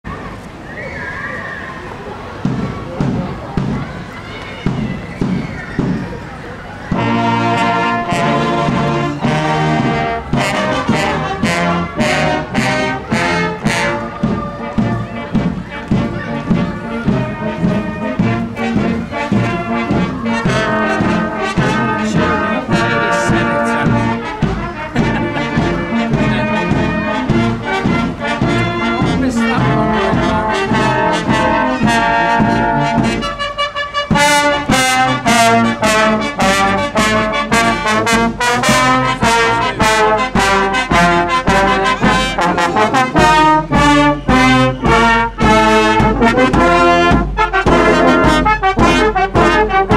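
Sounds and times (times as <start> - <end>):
brass band playing a march: 2.3 - 49.9.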